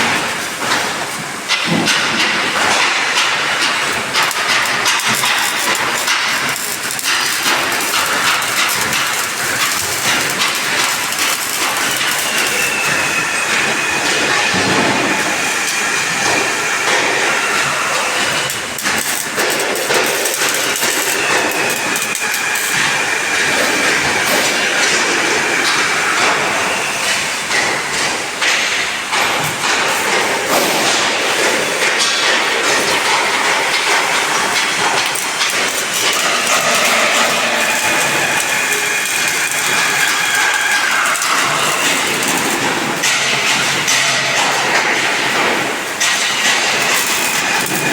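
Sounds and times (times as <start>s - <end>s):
welding arc crackling: 2.6s - 26.4s, 29.6s - 47.9s.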